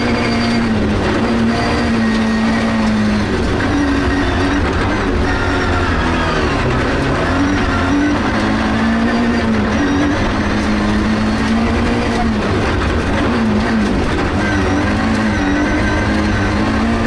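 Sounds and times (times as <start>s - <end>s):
rally car engine revving: 0.0s - 17.0s
tyre noise on dirt road: 0.0s - 17.0s.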